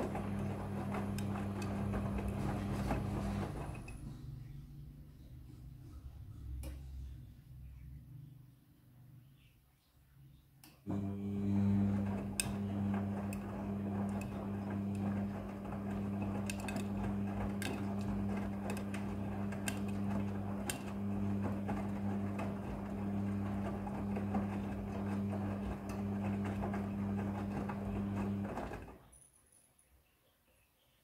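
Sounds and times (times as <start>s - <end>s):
washing machine motor hum: 0.0s - 7.8s, 10.8s - 29.0s.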